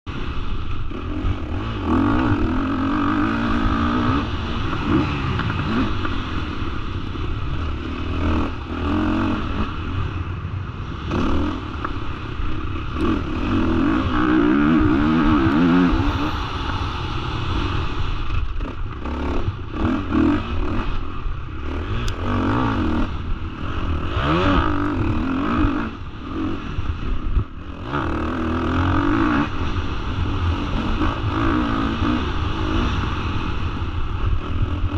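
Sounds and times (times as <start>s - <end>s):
motocross bike engine revving: 0.1s - 34.9s.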